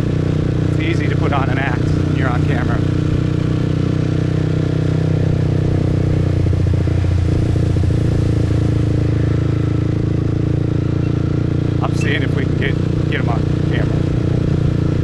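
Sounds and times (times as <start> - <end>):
motorbike engine running: 0.0 - 15.0.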